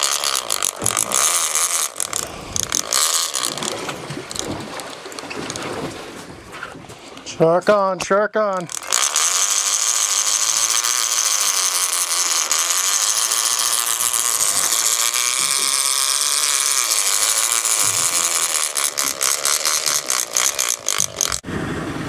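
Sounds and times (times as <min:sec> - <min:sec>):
fishing reel drag whining: 0:00.0 - 0:05.7, 0:08.5 - 0:21.4.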